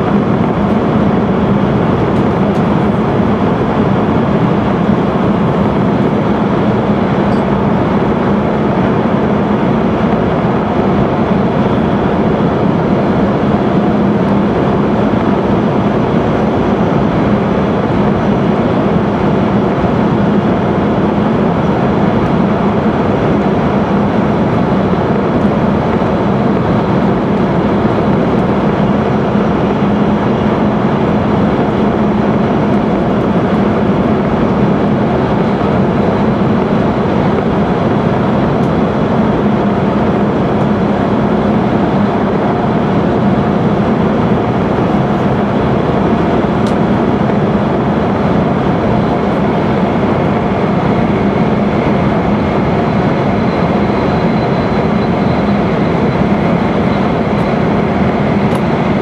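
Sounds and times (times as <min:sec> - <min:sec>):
steady low hum: 0:00.0 - 0:59.0
train rushing rumble in tunnel: 0:00.0 - 0:59.0.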